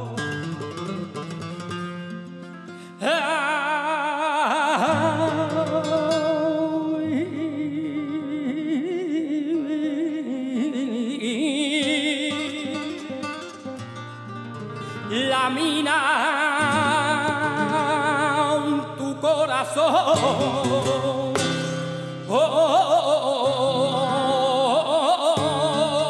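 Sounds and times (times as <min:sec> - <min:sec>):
acoustic guitar: 0:00.0 - 0:26.0
man singing flamenco: 0:00.0 - 0:26.0.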